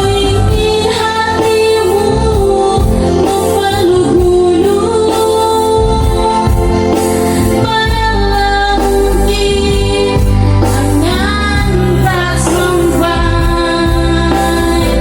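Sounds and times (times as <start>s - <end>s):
amplified backing music: 0.0s - 15.0s
person singing slow song: 0.0s - 15.0s.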